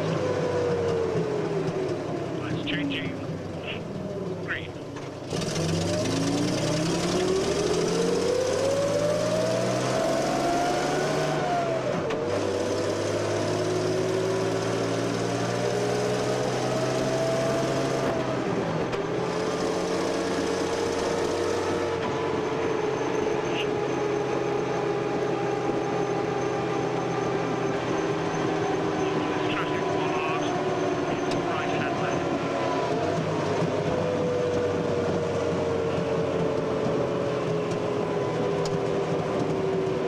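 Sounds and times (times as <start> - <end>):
vehicle engine accelerating: 0.0 - 40.0.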